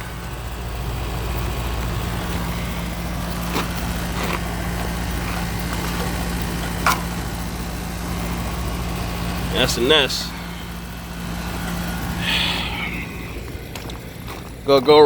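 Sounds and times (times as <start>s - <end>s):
hvac units humming: 0.0s - 15.0s.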